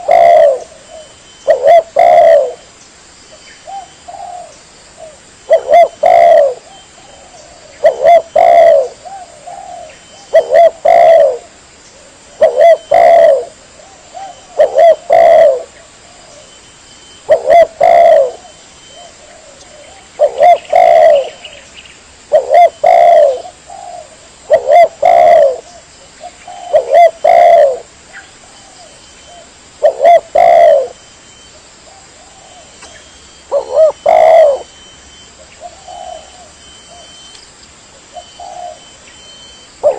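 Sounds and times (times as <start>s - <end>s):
dove cooing: 0.0s - 2.7s, 3.6s - 21.7s, 22.3s - 37.3s, 38.0s - 39.9s.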